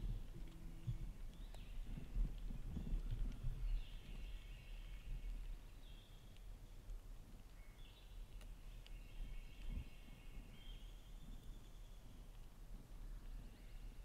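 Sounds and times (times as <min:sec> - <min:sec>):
songbirds singing: 0:00.0 - 0:14.0.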